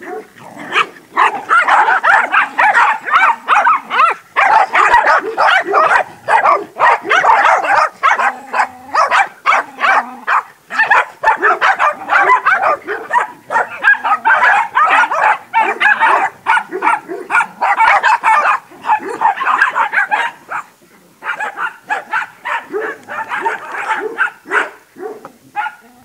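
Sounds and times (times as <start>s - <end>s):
dog barking rapidly: 0.0s - 25.8s.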